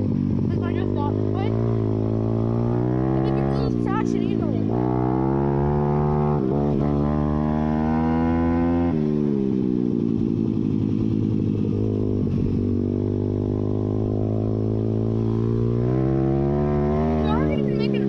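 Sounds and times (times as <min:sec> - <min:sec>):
pit bike engine running: 0:00.0 - 0:18.0.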